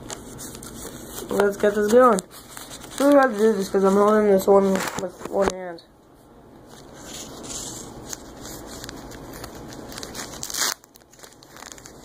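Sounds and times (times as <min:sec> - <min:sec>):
plastic wrapper crinkling: 0:00.0 - 0:05.6, 0:06.8 - 0:12.0.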